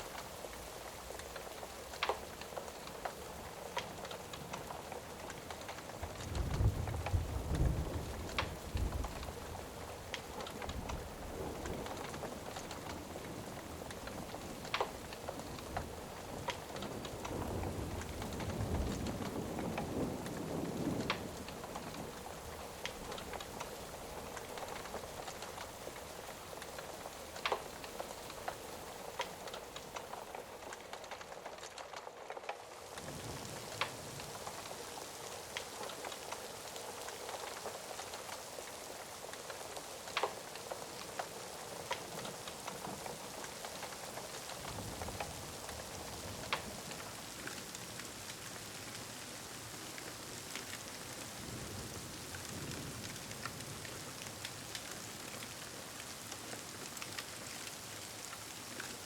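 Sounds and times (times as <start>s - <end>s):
fire crackling and popping: 0.0s - 59.0s
steady rain falling: 0.0s - 59.0s.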